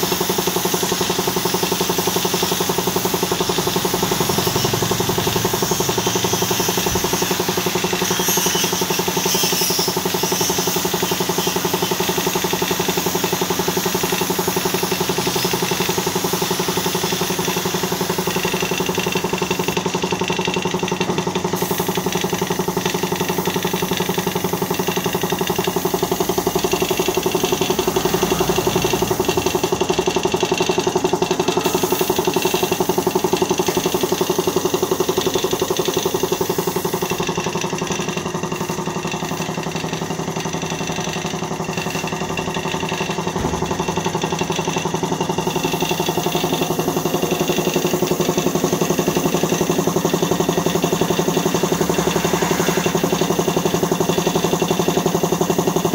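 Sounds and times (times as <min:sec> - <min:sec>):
air hiss: 0:00.0 - 0:19.8, 0:21.5 - 0:37.9, 0:41.7 - 0:55.8
air compressor humming: 0:00.0 - 0:55.9.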